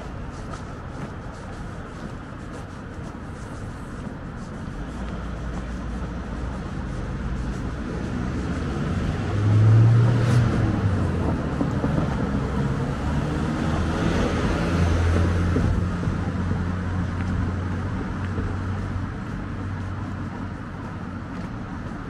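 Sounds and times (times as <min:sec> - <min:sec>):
low engine hum: 0:00.0 - 0:22.0
road traffic engines and tyres: 0:00.0 - 0:22.0
car passing: 0:03.7 - 0:22.0.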